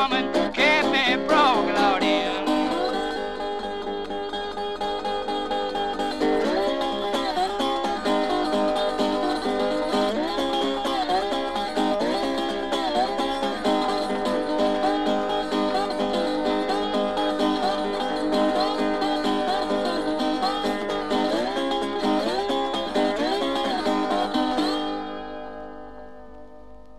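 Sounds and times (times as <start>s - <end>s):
plucked acoustic guitar music: 0.0s - 26.4s.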